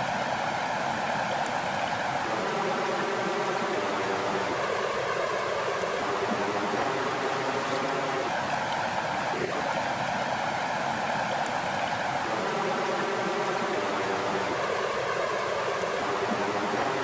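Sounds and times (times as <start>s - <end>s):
water flowing and lapping: 0.0s - 17.0s.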